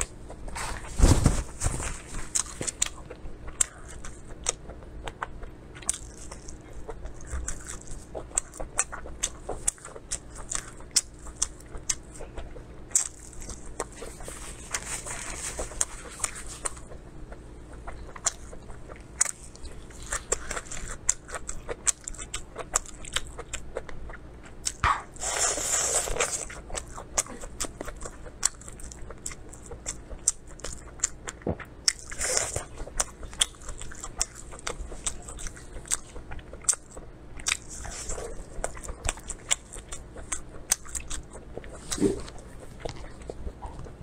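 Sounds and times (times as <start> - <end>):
chewing wet food: 1.6 - 44.0.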